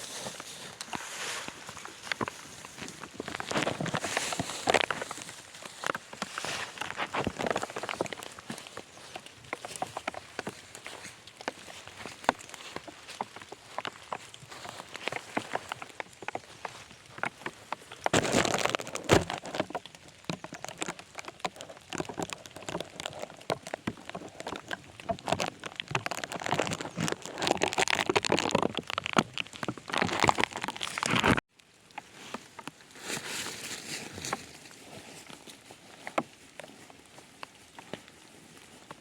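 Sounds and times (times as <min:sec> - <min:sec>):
crinkling and crackling rustles: 0:00.0 - 0:39.0
rain patter: 0:01.5 - 0:39.0.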